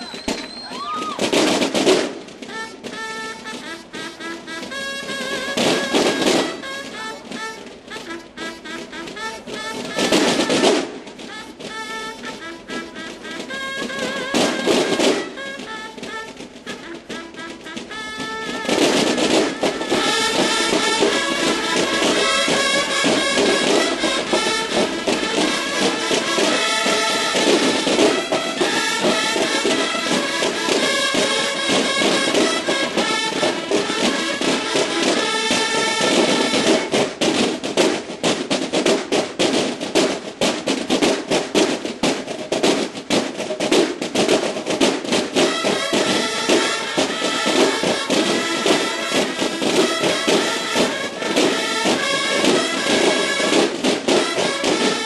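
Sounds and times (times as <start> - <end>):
bugles sounding calls: 0.0 - 55.0
drums playing rhythms: 0.0 - 55.0.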